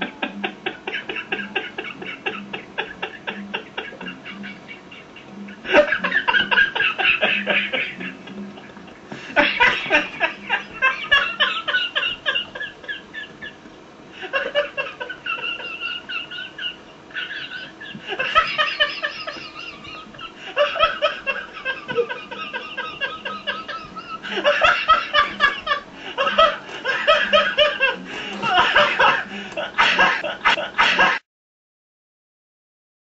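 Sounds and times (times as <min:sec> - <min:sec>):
boy laughing: 0:00.0 - 0:13.6, 0:14.2 - 0:31.2.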